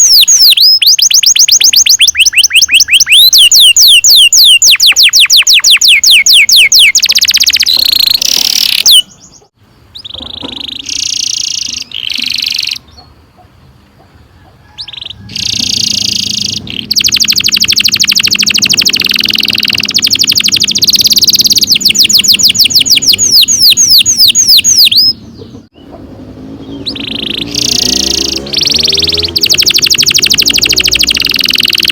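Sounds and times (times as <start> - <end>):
canary singing trills: 0.0 - 31.9.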